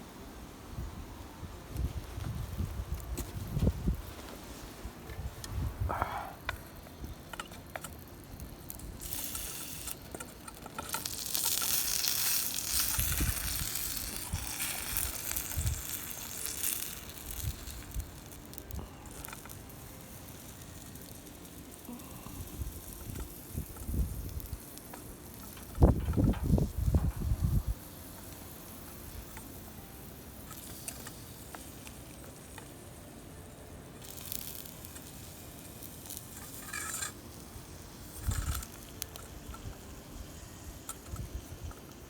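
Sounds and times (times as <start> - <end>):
food sizzling over campfire: 0.0 - 42.0.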